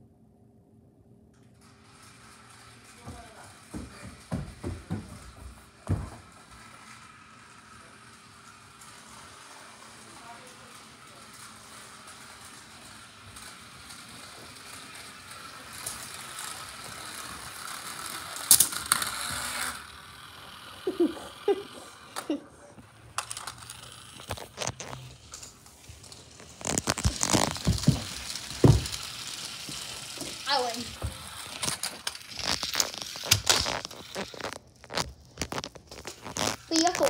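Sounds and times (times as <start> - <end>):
toy car motor whirring: 1.4 - 37.0.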